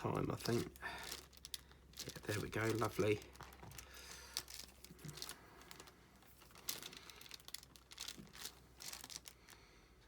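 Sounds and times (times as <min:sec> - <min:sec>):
faint plastic crinkles: 0:00.0 - 0:10.0.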